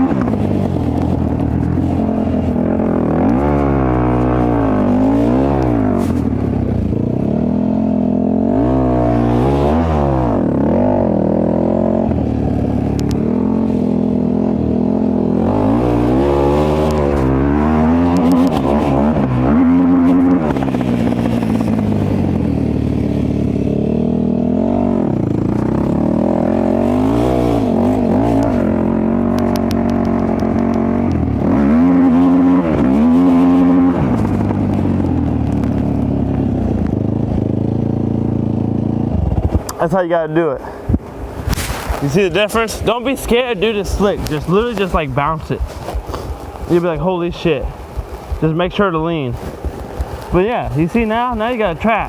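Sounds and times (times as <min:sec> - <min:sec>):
off-road motorcycle engine revving: 0:00.0 - 0:52.0.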